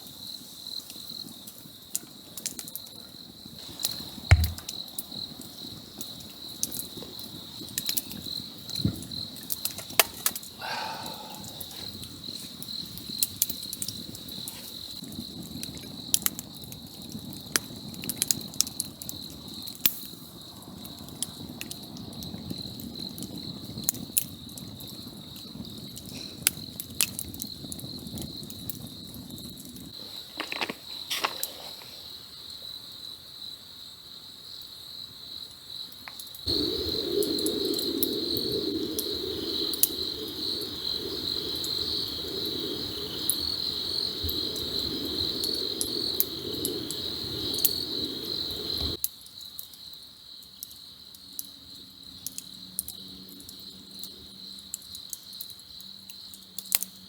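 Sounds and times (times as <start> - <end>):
campfire crackling: 0.0 - 33.6, 35.4 - 57.0
insects chirping: 0.0 - 57.0.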